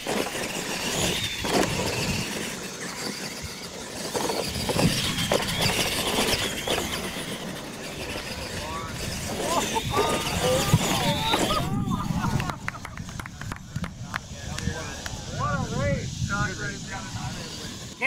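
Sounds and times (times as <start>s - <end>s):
tires on dirt: 0.0s - 18.0s
toy truck motors whining: 0.0s - 18.0s.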